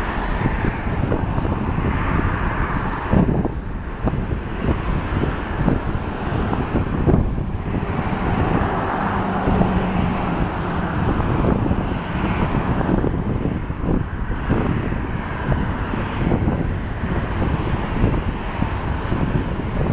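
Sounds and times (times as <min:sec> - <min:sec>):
jet engines at takeoff: 0:00.0 - 0:19.9.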